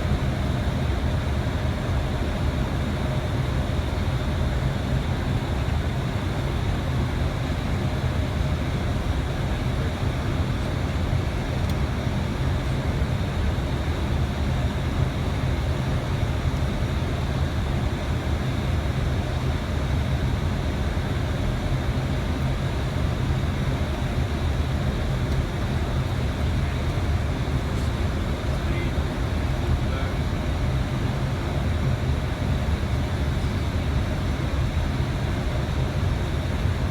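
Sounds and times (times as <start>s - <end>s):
low rumble in airplane cockpit: 0.0s - 36.9s.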